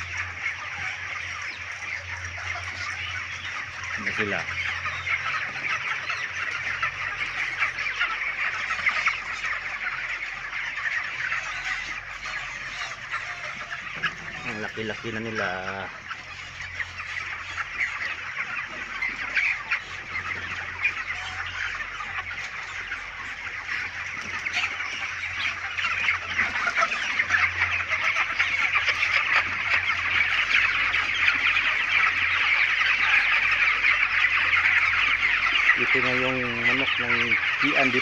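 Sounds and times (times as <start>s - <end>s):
chickens clucking and chirping: 0.0s - 38.0s.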